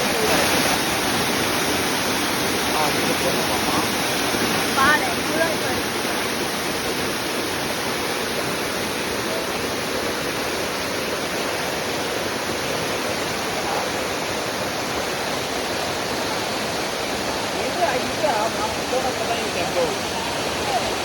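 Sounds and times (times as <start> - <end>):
waterfall pouring and splashing: 0.0 - 21.0.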